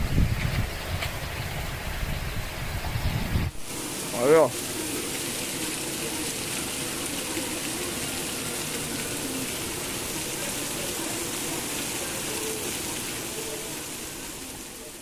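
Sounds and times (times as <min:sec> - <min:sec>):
heavy rain on street and rooftops: 0:00.0 - 0:15.0.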